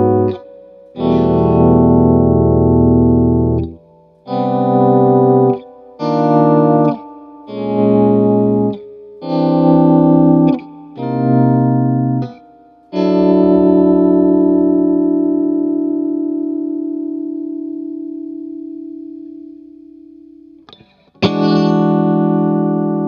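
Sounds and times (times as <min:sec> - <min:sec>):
electric guitar strummed chords: 0:00.0 - 0:23.0.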